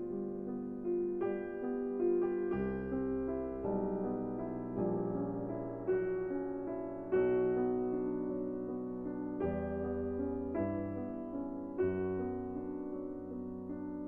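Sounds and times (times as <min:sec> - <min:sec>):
soft lo-fi piano chords: 0:00.0 - 0:14.0.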